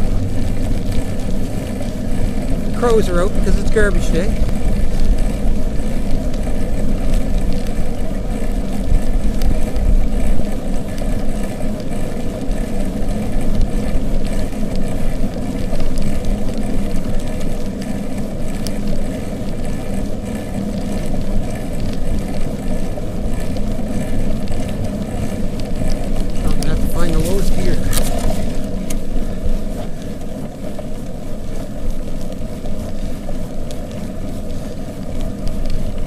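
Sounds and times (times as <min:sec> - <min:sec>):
bicycle tyres rolling on road: 0:00.0 - 0:36.0.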